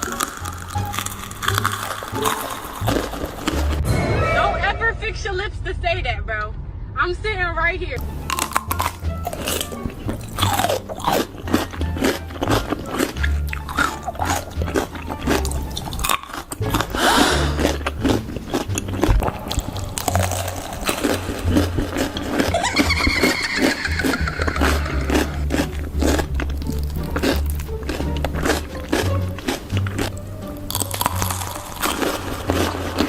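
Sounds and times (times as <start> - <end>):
crunching bites and chewing: 0.0 - 3.8, 8.0 - 33.0.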